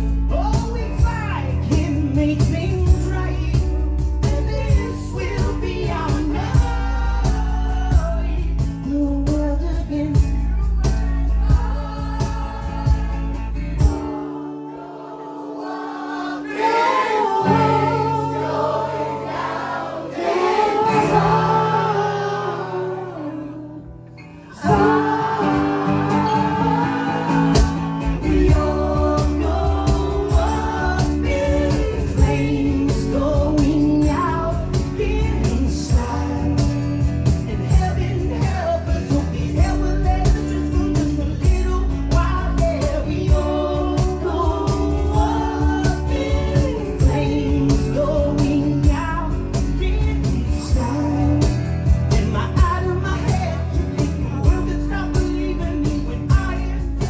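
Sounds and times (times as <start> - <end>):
man singing: 0.0 - 14.2, 20.6 - 57.0
strummed acoustic guitars: 0.0 - 57.0.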